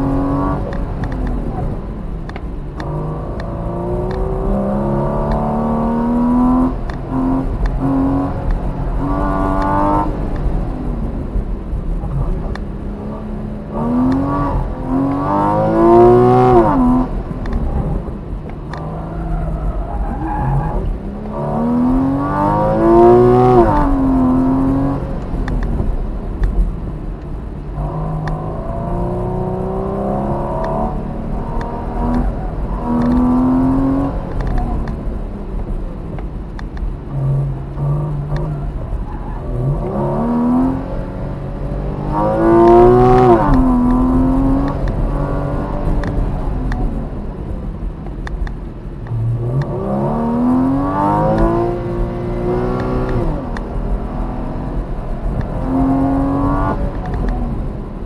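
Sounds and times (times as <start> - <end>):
car engine revving with rising whine: 0.0 - 58.0.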